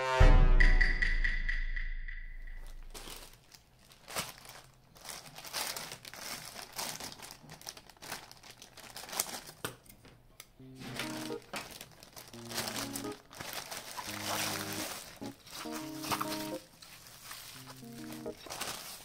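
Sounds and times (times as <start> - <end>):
plastic bag crinkling: 2.6 - 9.7, 10.8 - 19.0.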